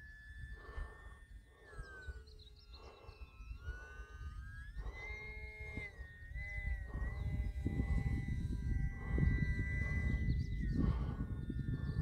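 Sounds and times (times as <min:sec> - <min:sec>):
model plane motor whine: 0:00.0 - 0:12.0
wind noise on microphone: 0:00.0 - 0:12.0.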